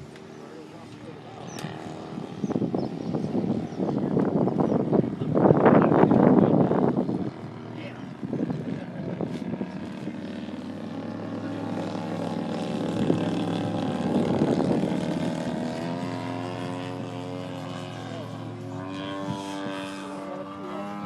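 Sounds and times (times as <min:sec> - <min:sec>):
model airplane motor droning: 0:00.0 - 0:21.0.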